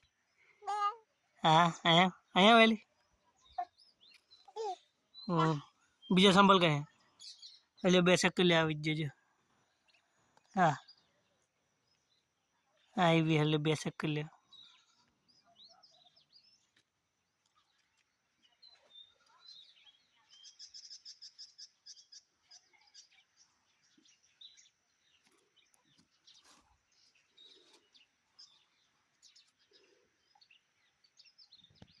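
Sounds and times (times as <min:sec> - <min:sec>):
sparrows chirping: 0:00.0 - 0:32.0.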